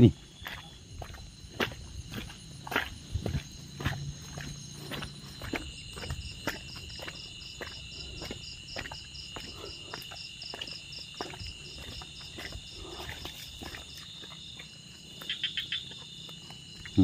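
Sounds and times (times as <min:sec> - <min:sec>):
footsteps on muddy brushy ground: 0:00.0 - 0:17.0
insects trilling and chirping: 0:00.0 - 0:17.0.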